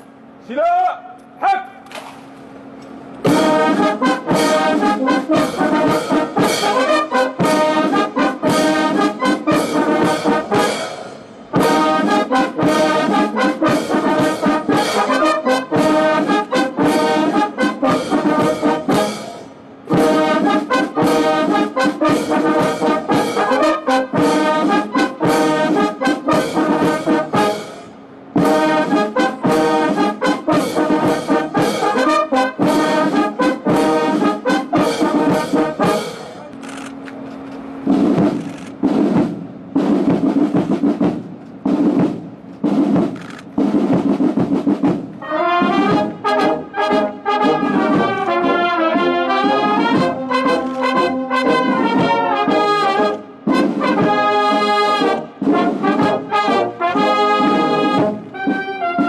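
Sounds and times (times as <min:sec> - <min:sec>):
military brass band playing: 0:01.5 - 0:37.0, 0:37.6 - 0:59.0.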